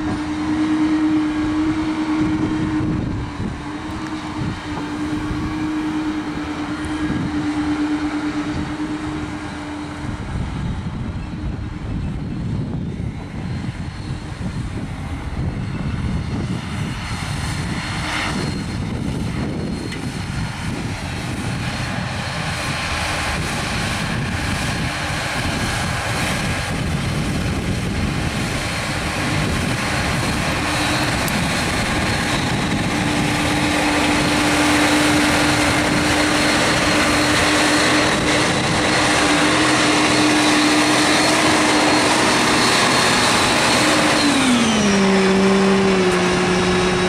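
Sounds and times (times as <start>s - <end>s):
tractor diesel engine whining: 0.0s - 47.0s.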